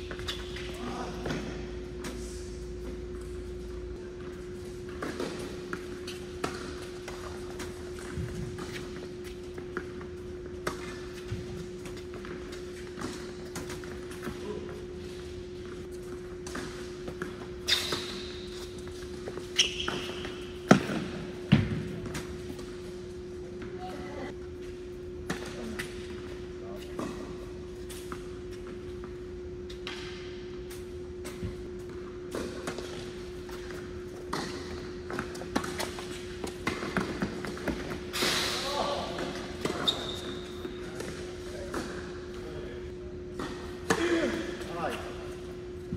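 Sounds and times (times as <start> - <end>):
shoes squeaking on court: 0.0 - 45.9
steady hum: 0.0 - 45.9.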